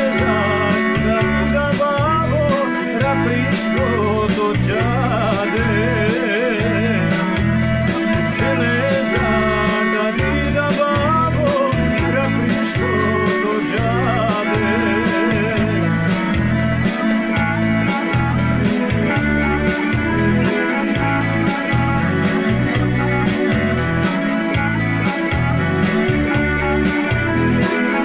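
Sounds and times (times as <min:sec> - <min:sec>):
electronic keyboard melody with beat: 0:00.0 - 0:28.0.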